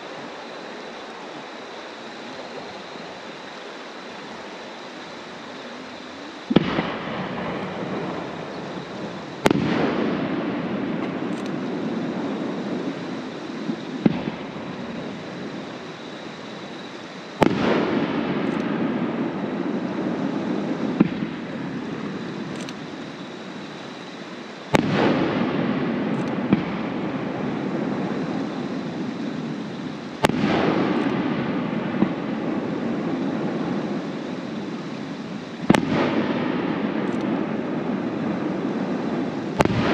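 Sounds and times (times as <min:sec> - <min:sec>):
fireworks crackle: 0:00.0 - 0:39.9
fireworks bangs: 0:01.9 - 0:39.9.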